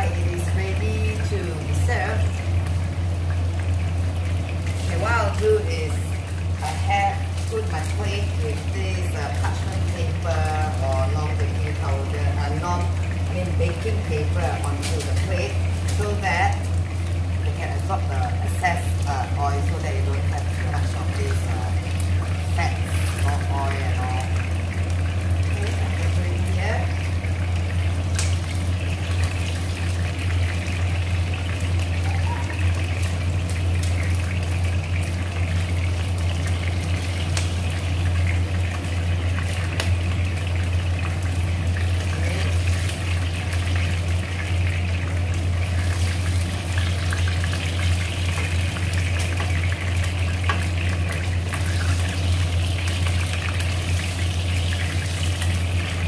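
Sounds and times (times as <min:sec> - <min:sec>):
chicken wings sizzling in oil: 0:00.0 - 0:56.0
steady low hum: 0:00.0 - 0:56.0.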